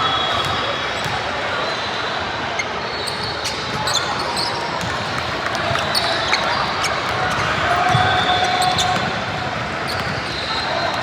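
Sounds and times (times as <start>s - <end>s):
crowd chatter echoing: 0.0s - 11.0s.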